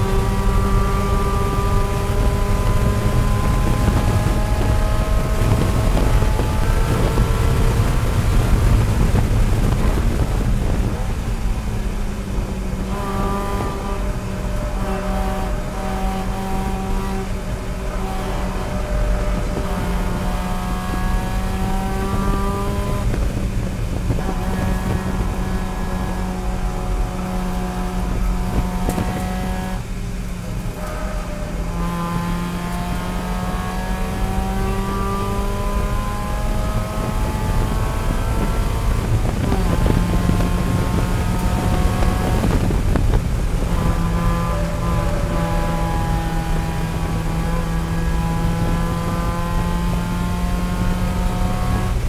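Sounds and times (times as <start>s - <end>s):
race car engine at high revs: 0.0s - 52.0s.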